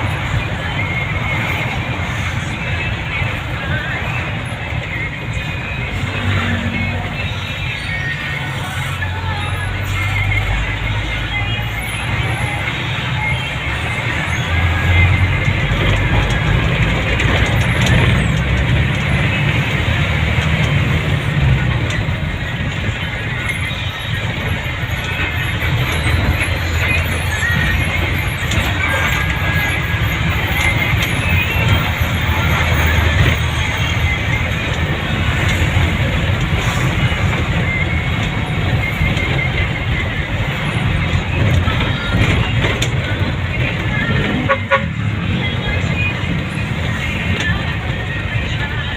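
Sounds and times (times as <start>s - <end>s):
vehicle engine and road noise: 0.0s - 48.9s.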